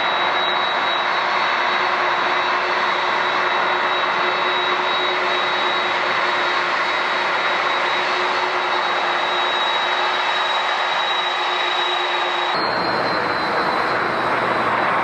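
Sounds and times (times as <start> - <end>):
jet engine roar with whine: 0.0 - 15.0.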